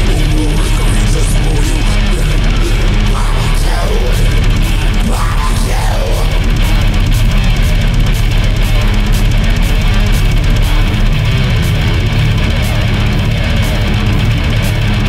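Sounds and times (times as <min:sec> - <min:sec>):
heavy metal instrumental: 0:00.0 - 0:15.0
sliding guitar lead line: 0:00.0 - 0:15.0.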